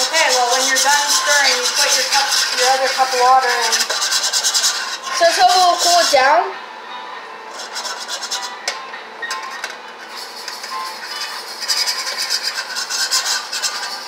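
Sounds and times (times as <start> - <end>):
fork scraping metal pan: 0.0 - 6.3, 7.5 - 8.6, 9.4 - 14.0.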